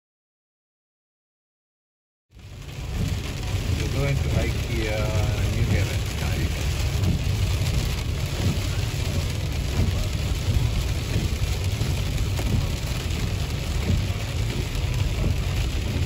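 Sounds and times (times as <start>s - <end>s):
car rumbling on wet road: 2.3s - 16.0s
heavy rain on car windshield: 2.3s - 16.0s.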